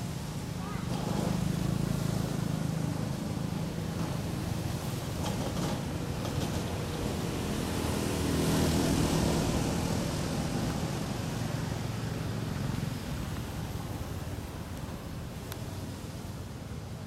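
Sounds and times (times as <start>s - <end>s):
motor engine passing: 0.1s - 16.5s.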